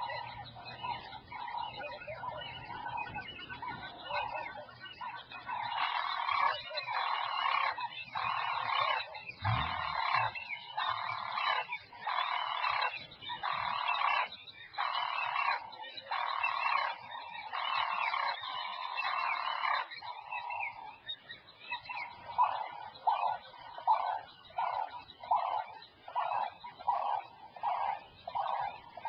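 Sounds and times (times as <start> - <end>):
rhythmic animal calls: 0.0 - 29.0.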